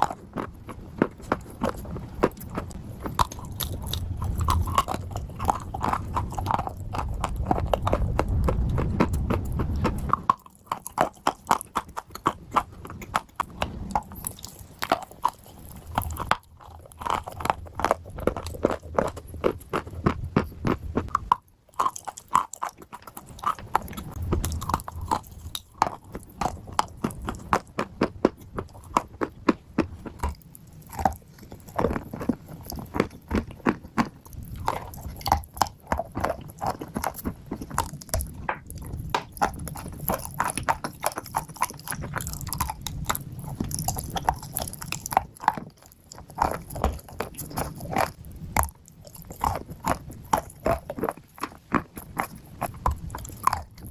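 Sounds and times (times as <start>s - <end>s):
chewing and crunching dry clay: 0.0s - 53.9s.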